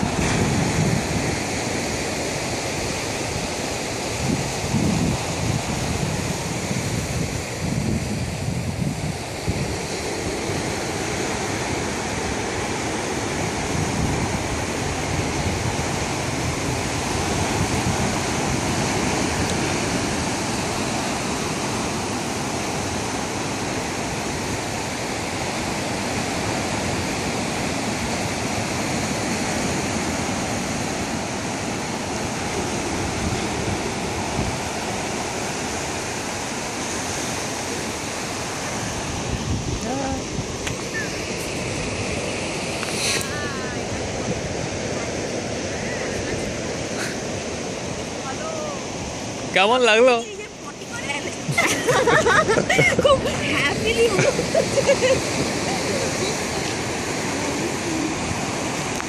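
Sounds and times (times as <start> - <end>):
surf washing onto cobble beach: 0.0 - 59.0.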